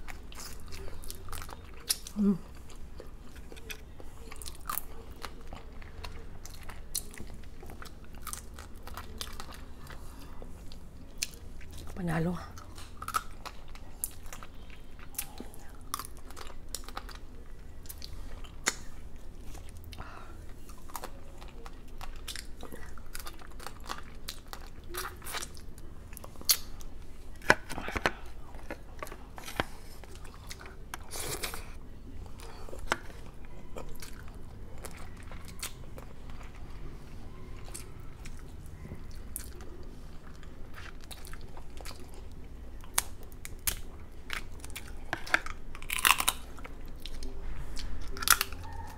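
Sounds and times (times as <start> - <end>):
person chewing and crunching: 0.0 - 48.9.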